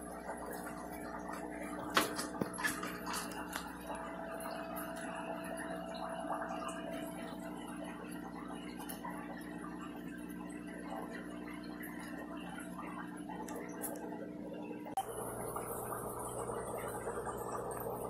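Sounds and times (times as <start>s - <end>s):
steady hum: 0.0s - 18.0s
water bubbling and trickling: 0.0s - 18.0s.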